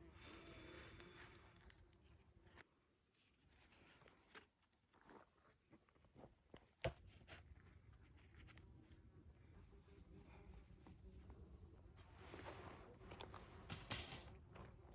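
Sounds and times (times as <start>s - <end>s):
faint clicks and rustles: 0.1s - 14.9s.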